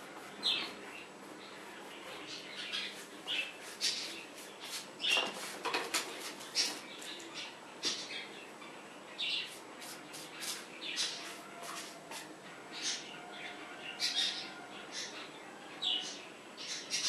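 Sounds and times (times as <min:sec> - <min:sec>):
small birds chirping: 0:00.0 - 0:11.8, 0:12.7 - 0:17.0.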